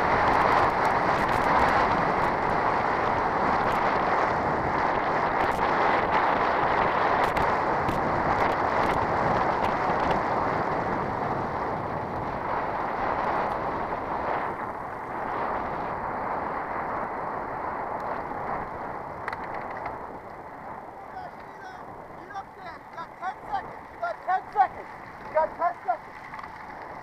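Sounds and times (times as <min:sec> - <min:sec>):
bike tyres rolling over gravel: 0:00.0 - 0:27.0
wind rushing past microphone: 0:00.0 - 0:27.0.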